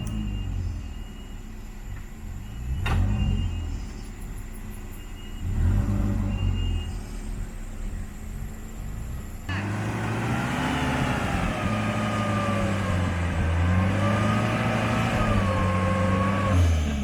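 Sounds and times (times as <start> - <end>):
engine whine: 0.0 - 17.0
off-road engine revving: 0.0 - 17.0.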